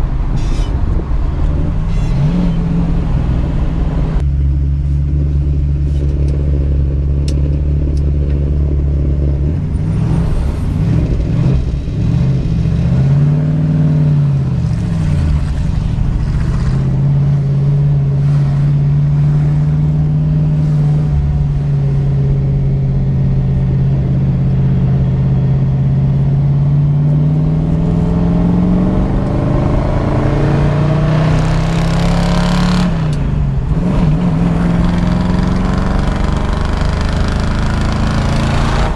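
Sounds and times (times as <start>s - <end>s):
car engine and exhaust accelerating: 0.0s - 38.9s.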